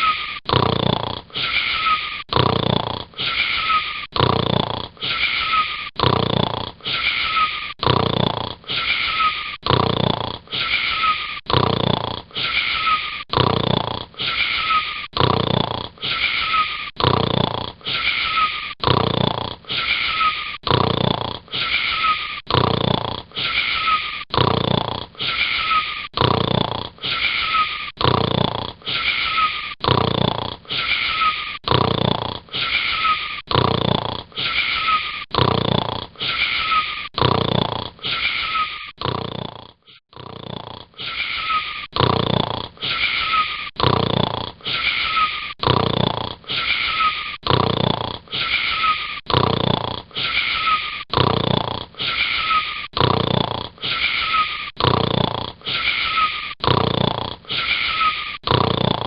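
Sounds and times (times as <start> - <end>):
wheezing snoring: 0.0 - 59.0.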